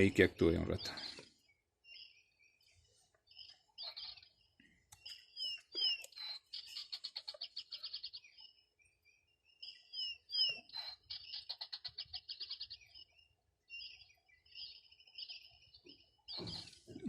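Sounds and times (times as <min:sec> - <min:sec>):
songbird whistles and trill: 0:01.8 - 0:04.4, 0:05.0 - 0:16.9.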